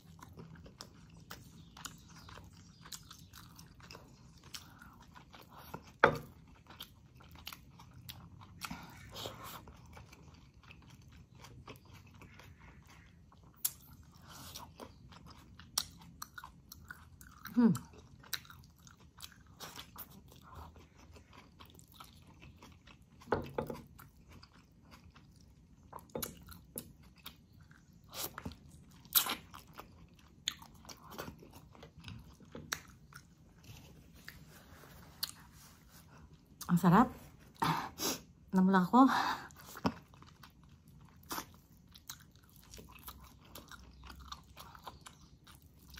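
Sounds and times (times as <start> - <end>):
person chewing: 0.0 - 36.7, 39.4 - 45.9.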